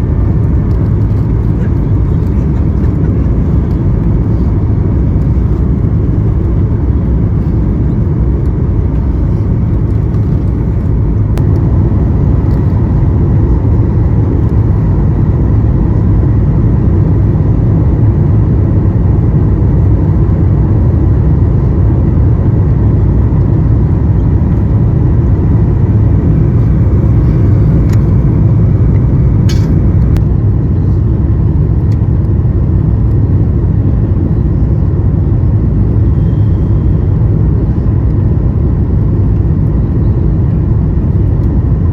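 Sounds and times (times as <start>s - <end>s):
airplane cabin engine noise: 0.0s - 41.9s
faint steady whine: 0.0s - 41.9s.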